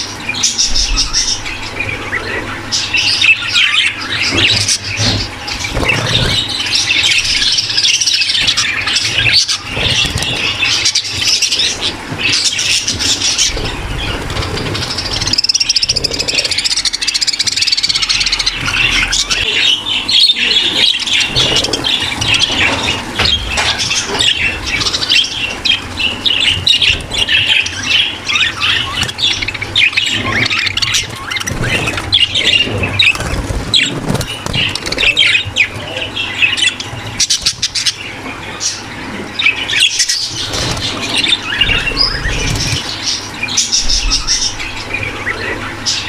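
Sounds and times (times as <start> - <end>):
budgerigars chattering and warbling: 0.0 - 46.0.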